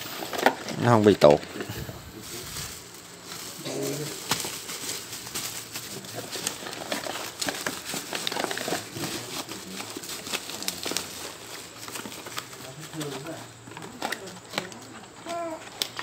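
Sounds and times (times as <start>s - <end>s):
bubble wrap crinkling and crackling: 0.0s - 16.0s.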